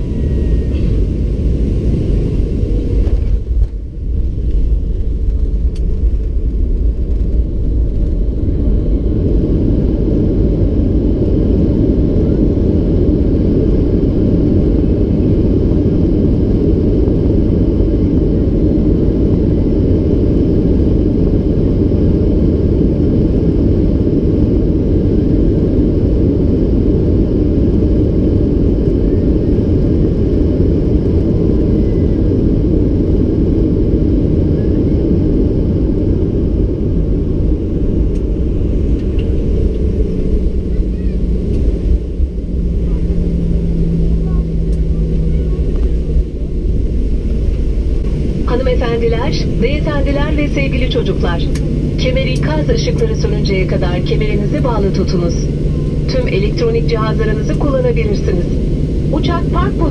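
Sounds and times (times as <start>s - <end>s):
aircraft cabin low rumble: 0.0s - 59.9s.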